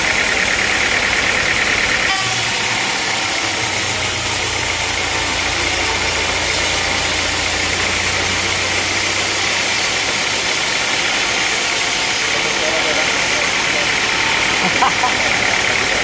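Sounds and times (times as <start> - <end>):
loud even machinery noise: 0.0 - 16.0
low engine hum: 0.0 - 16.0.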